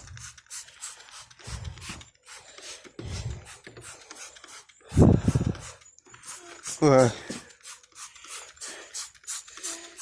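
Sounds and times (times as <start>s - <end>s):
spray bottle squirting: 0.0s - 10.0s.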